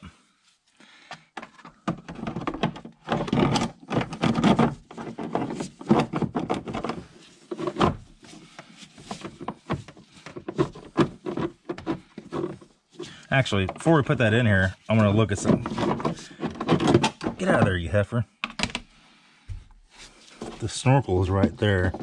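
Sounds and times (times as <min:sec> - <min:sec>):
plastic airbox knocks and scraping: 0:01.1 - 0:22.0.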